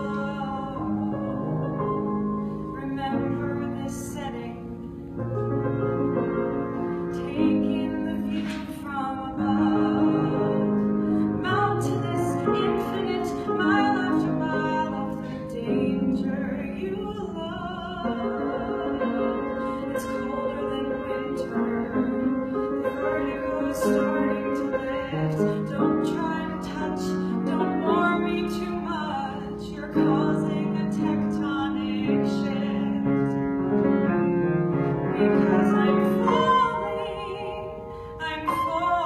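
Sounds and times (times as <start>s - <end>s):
piano chords: 0.0s - 39.0s.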